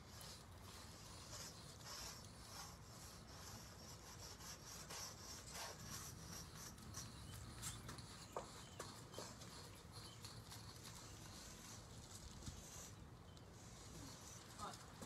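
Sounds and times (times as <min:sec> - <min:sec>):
chalk scraping on concrete: 0:00.0 - 0:13.0.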